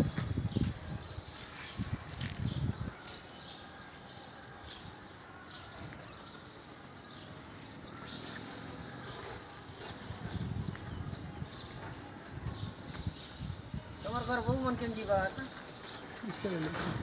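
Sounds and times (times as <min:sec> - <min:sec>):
faint outdoor background noise: 0:00.0 - 0:17.0
small birds chirping: 0:00.0 - 0:17.0.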